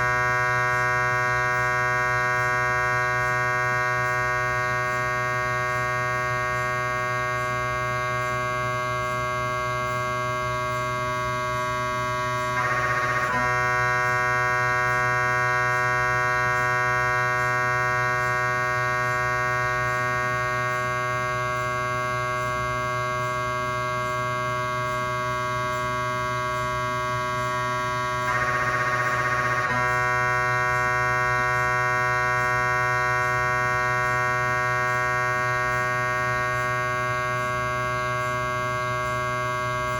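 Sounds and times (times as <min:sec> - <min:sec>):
low hum: 0:00.0 - 0:39.9
mri scanner buzzing: 0:00.0 - 0:39.9.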